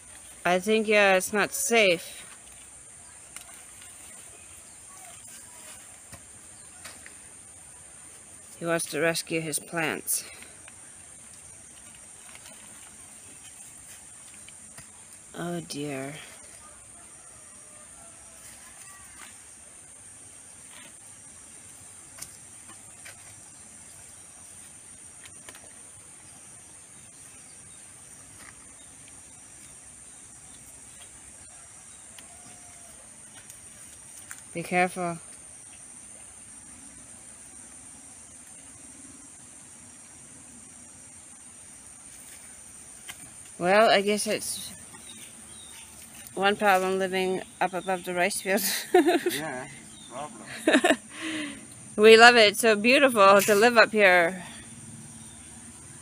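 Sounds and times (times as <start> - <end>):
plants and soil rustling: 0.0 - 35.4, 41.9 - 54.6
crickets droning: 0.0 - 56.0.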